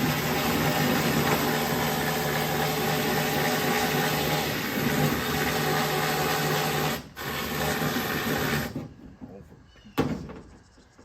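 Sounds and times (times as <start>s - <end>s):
power tool running: 0.0s - 8.9s.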